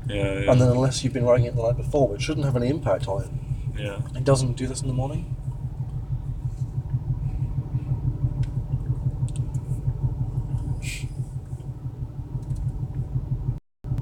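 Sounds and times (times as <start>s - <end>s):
car engine running rough: 0.0s - 14.0s.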